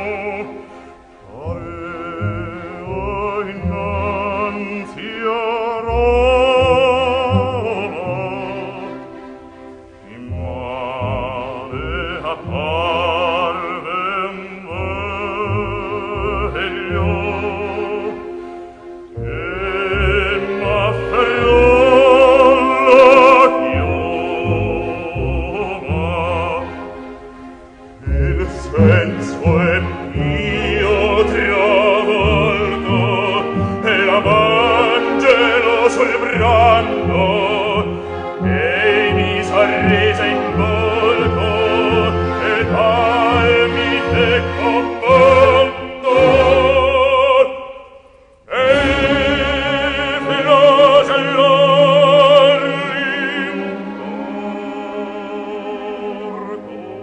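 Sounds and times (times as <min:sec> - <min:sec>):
orchestra playing: 0:00.0 - 0:47.9, 0:48.5 - 0:57.0
operatic singing: 0:00.0 - 0:57.0.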